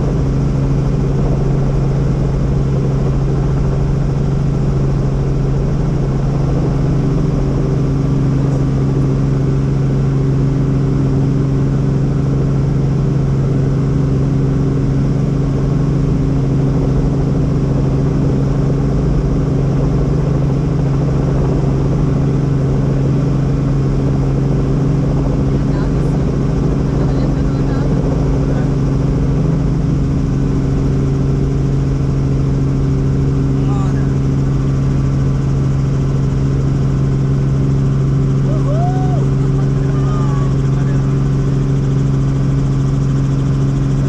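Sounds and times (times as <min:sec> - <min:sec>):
helicopter engine and rotor drone: 0:00.0 - 0:44.0.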